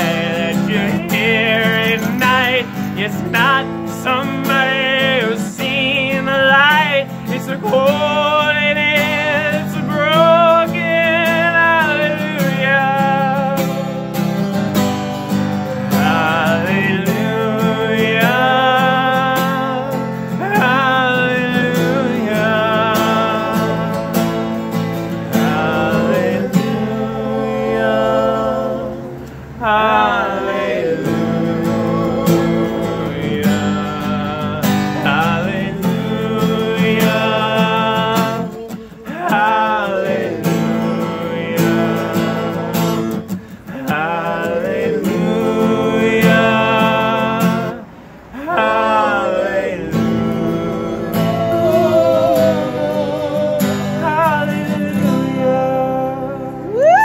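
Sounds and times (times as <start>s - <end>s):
man singing: 0.0s - 14.3s, 15.6s - 57.0s
acoustic guitar strumming: 0.0s - 57.0s.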